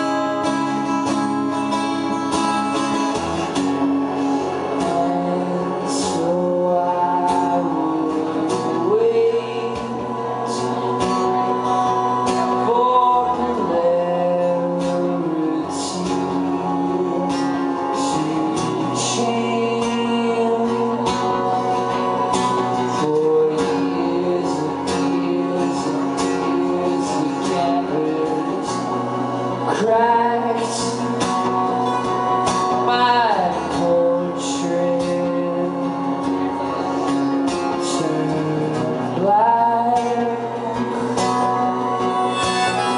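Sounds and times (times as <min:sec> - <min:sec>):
strummed acoustic guitar: 0:00.0 - 0:42.9
man singing: 0:04.3 - 0:42.9.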